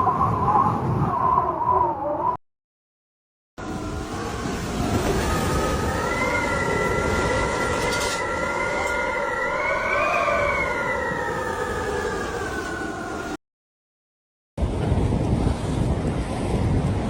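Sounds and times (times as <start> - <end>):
howling wind: 0.0 - 2.4, 3.6 - 13.4, 14.6 - 17.0.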